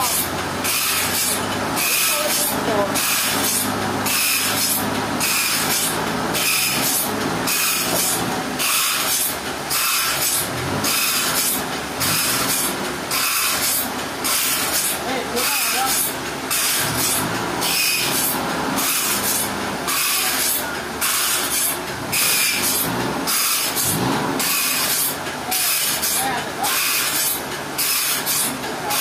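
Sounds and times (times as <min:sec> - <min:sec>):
saw cutting through log: 0:00.0 - 0:29.0.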